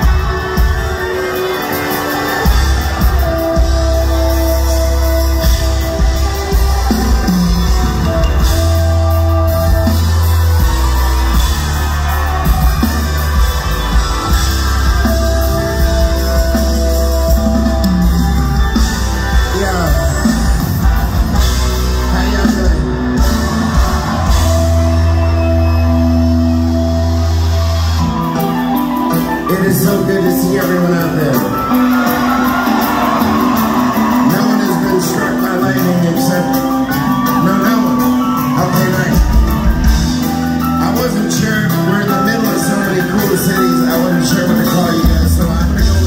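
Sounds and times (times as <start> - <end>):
reggae band playing: 0.0 - 46.0.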